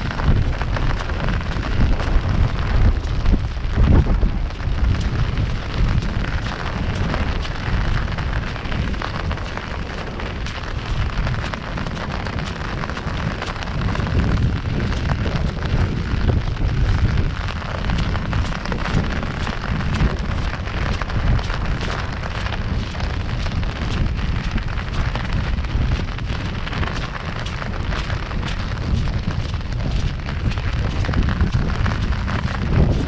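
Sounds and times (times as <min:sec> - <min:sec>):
deep rumble: 0:00.0 - 0:33.0
heavy rain on an umbrella: 0:00.0 - 0:33.0.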